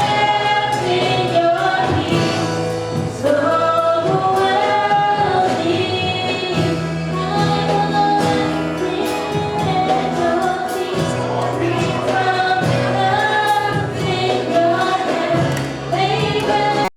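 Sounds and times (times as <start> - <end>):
band with bass and drums: 0.0 - 16.9
voices singing in harmony: 0.0 - 16.9.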